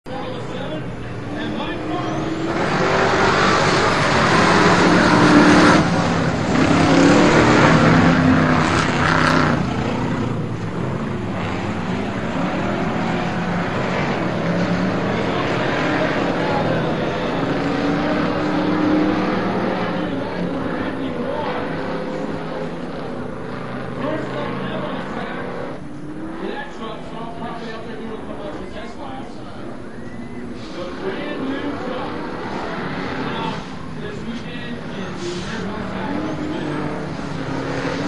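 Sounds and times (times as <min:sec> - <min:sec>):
race truck engines revving: 0:00.0 - 0:38.0.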